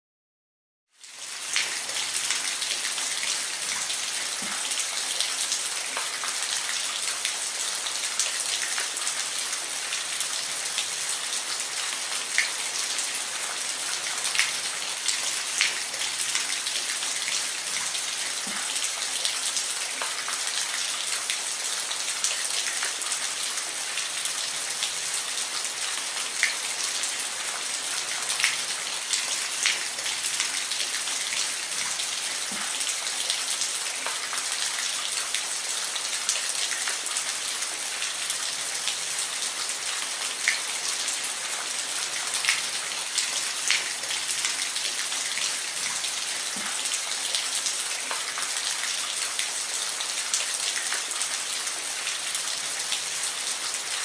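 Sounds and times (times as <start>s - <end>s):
rain falling: 1.0s - 54.0s.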